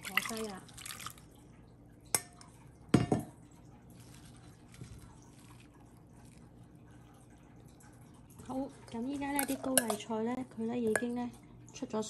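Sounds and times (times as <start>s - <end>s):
squishing and dripping: 0.0s - 11.8s.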